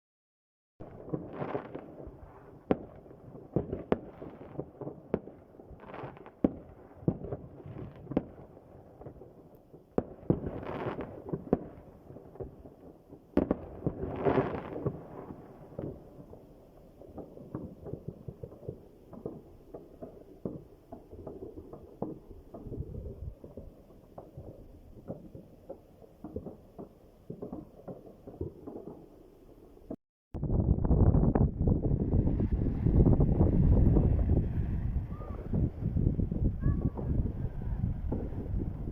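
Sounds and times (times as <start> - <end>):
fireworks banging and popping: 0.8 - 30.0, 31.1 - 38.9
fireworks rushing noise: 0.8 - 38.9.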